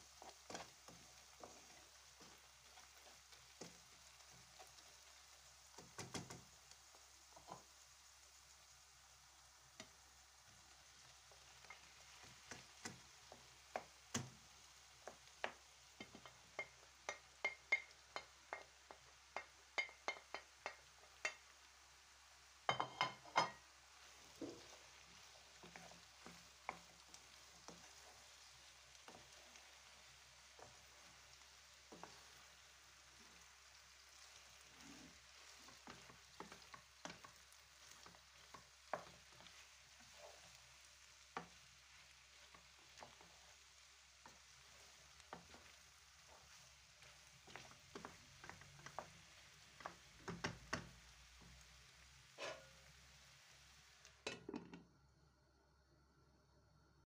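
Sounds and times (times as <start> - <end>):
wooden spoon scraping and stirring: 0.0 - 6.5, 9.8 - 21.4, 22.7 - 53.0
faint sizzle: 0.0 - 57.0.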